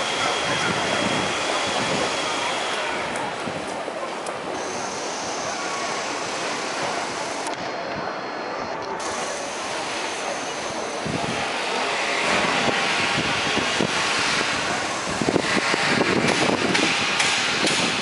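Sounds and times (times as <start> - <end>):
steady noisy hiss: 0.0 - 18.0.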